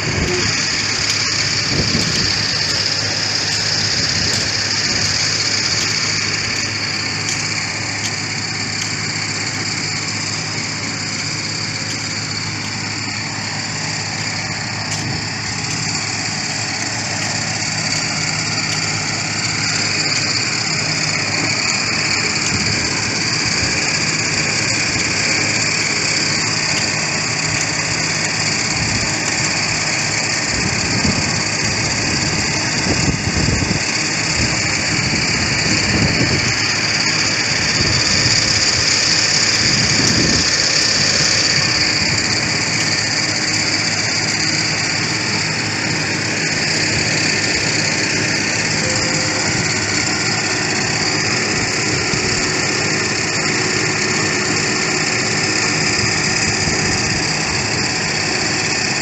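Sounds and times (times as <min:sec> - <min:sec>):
construction machinery engine running: 0:00.0 - 0:59.0.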